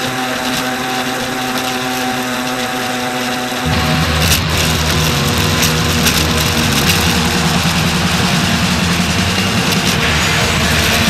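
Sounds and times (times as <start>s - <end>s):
model speedboat motor running: 0.0s - 11.0s.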